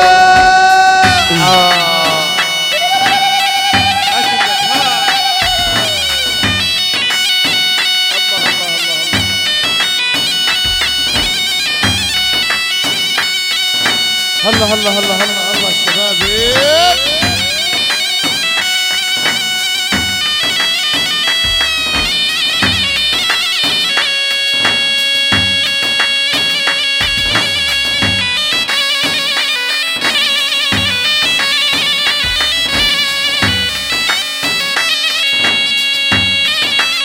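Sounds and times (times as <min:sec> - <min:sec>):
reedy pipe melody: 0:00.0 - 0:37.0
steady drum beat: 0:00.0 - 0:37.0.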